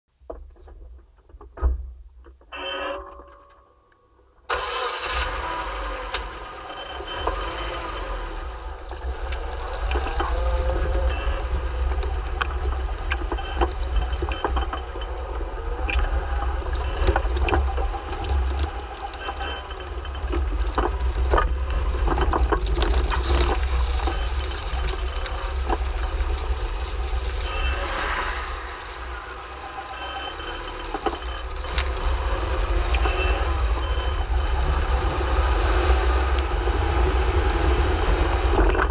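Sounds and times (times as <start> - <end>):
car low rumble: 4.5 - 38.9.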